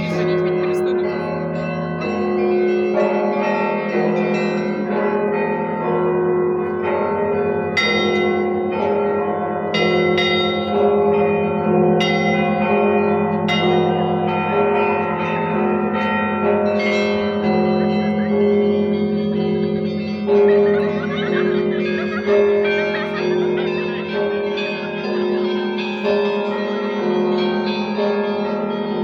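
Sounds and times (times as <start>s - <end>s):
church bells ringing a peal: 0.0s - 29.0s.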